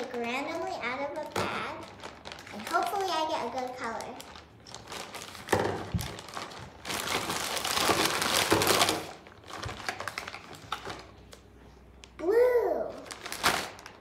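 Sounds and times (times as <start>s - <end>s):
plastic bag crinkling: 0.0s - 12.2s, 12.9s - 14.0s.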